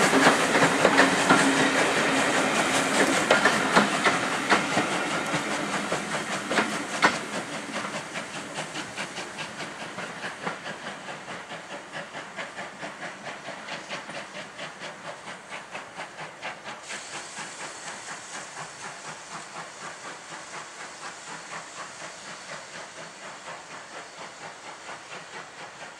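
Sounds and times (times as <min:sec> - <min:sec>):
higher steam hiss: 0:00.0 - 0:25.9
steam hiss: 0:00.0 - 0:25.9
steam locomotive exhaust beats: 0:00.0 - 0:25.9.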